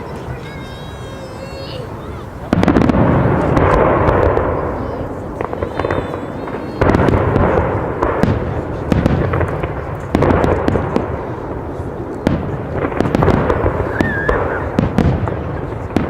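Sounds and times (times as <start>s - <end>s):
continuous rumble: 0.0s - 16.0s
fireworks bangs and crackling: 0.0s - 16.0s.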